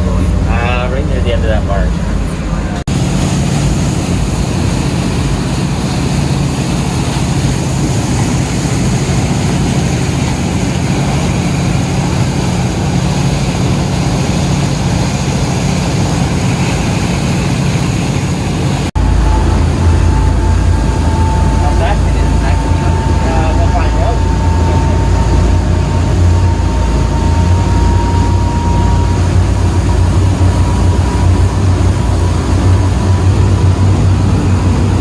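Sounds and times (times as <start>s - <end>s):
boat engines droning: 0.0s - 35.0s
churning wake rushing: 0.0s - 35.0s.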